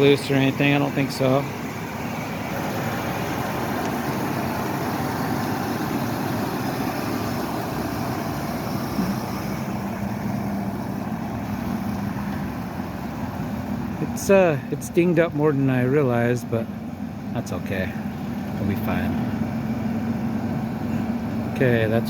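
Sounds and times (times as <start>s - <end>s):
pickup engine idling: 0.0s - 22.0s.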